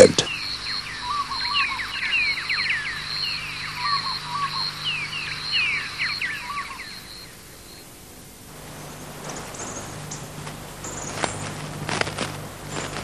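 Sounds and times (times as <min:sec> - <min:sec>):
birds chirping and whistling: 0:00.2 - 0:07.8, 0:08.5 - 0:13.0.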